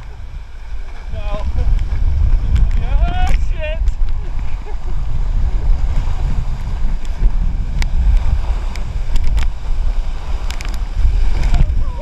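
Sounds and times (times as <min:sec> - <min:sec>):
rushing splashing water: 0:00.0 - 0:12.0.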